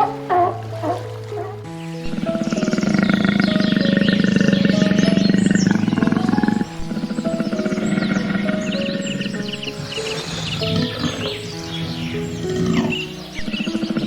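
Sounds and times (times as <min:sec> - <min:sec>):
background music: 0:00.0 - 0:14.0
faint bird chirps: 0:00.0 - 0:14.0
large animal growling: 0:00.0 - 0:14.0.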